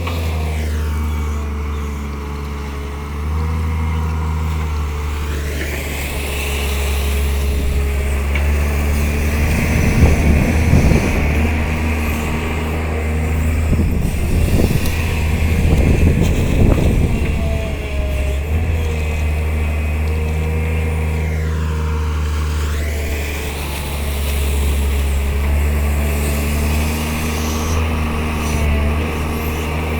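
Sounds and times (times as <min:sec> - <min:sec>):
excavator diesel drone: 0:00.0 - 0:29.9.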